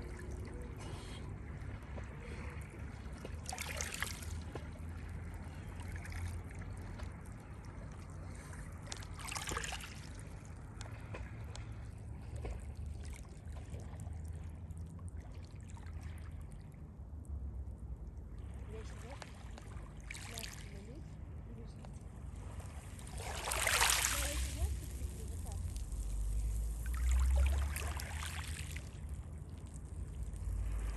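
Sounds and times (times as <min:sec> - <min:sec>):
low rumble of waves: 0:00.0 - 0:30.9.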